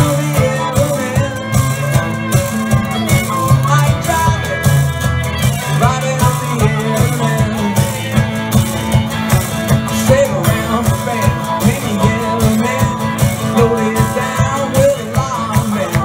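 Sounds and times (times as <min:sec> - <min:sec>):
acoustic guitar: 0:00.0 - 0:16.0
banjo: 0:00.0 - 0:16.0
drums keeping fast beat: 0:00.0 - 0:16.0.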